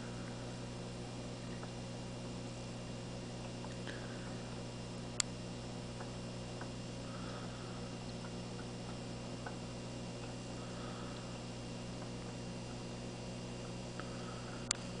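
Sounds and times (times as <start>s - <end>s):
humidifier humming: 0.0s - 15.0s.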